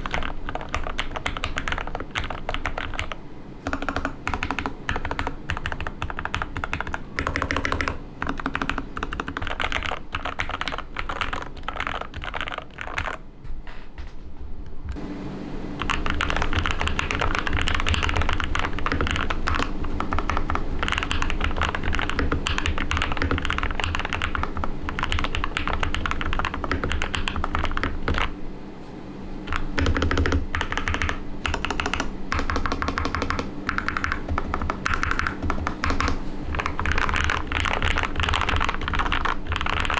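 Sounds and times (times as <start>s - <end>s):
fast mechanical keyboard typing: 0.0s - 13.2s, 15.8s - 28.4s, 29.5s - 39.9s.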